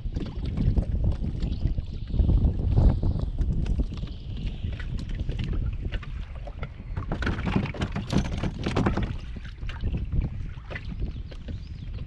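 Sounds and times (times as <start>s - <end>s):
choppy water: 0.0s - 12.0s
wind buffeting microphone: 0.0s - 12.0s.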